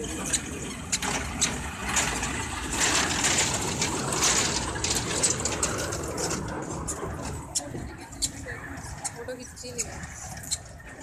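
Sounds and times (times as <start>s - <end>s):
sharp track clicks: 0.0s - 10.9s
mini train rattling on track: 0.0s - 11.0s.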